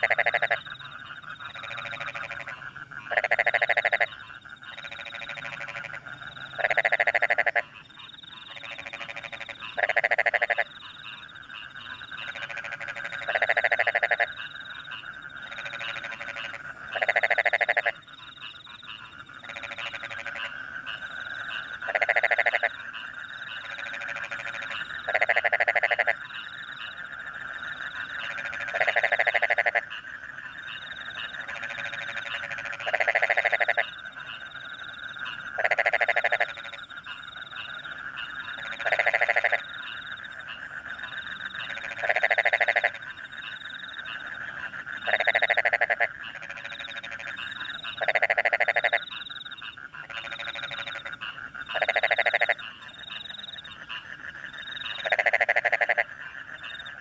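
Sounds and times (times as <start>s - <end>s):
crickets chorus: 0.0s - 57.0s
distant frogs: 0.0s - 57.0s
frog croaking loudly: 0.0s - 57.0s.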